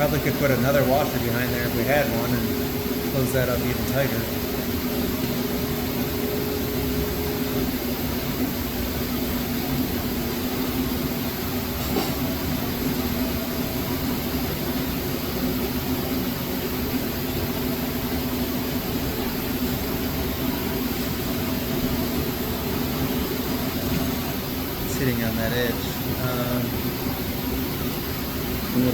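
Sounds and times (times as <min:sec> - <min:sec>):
machine motor droning: 0:00.0 - 0:28.9.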